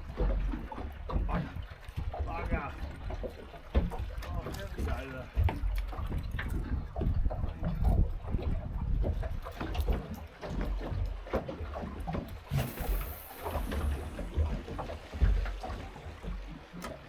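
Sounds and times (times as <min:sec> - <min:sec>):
wind rumbling on microphone: 0:00.0 - 0:11.2, 0:11.8 - 0:17.0
water slapping boat hull: 0:00.0 - 0:17.0.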